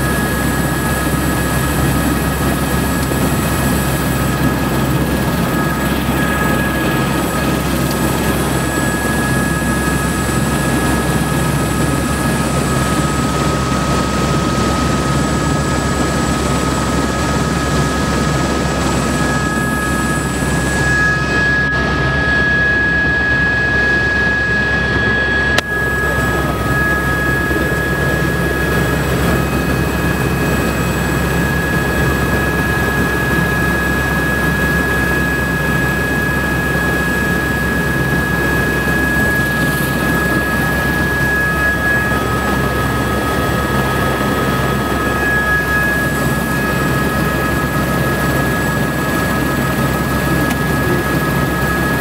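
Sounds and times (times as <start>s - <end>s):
helicopter running: 0.0s - 52.0s.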